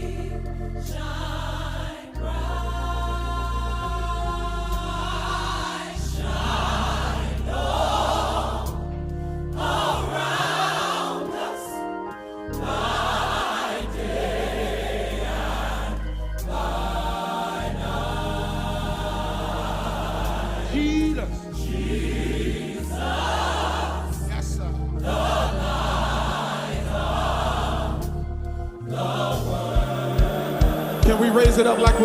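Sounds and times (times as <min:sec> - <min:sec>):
gospel choir singing: 0:00.0 - 0:32.0
instrumental backing with low bass: 0:00.0 - 0:32.0.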